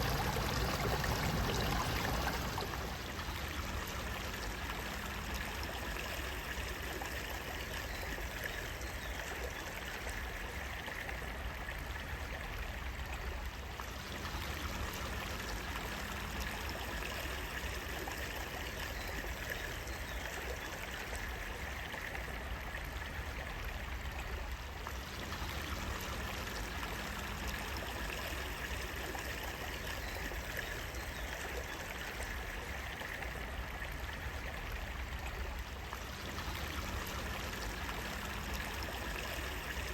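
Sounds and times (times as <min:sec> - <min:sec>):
water running over stones: 0:00.0 - 0:39.9.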